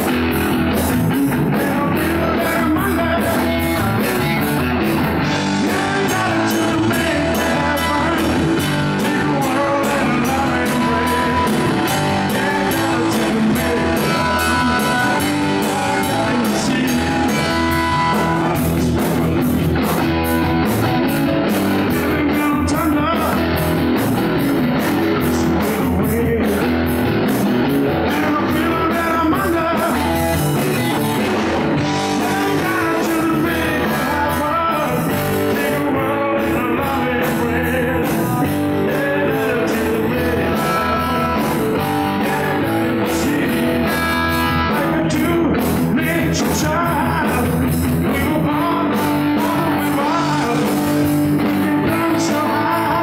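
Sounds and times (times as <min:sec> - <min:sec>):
drum kit beat: 0:00.0 - 0:53.0
electric bass: 0:00.0 - 0:53.0
electric guitar: 0:00.0 - 0:53.0.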